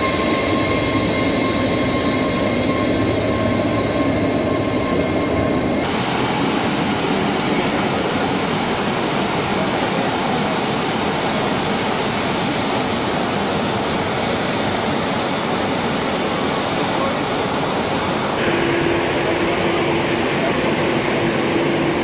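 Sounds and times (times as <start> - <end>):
jet airliner engines running: 0.0 - 22.0.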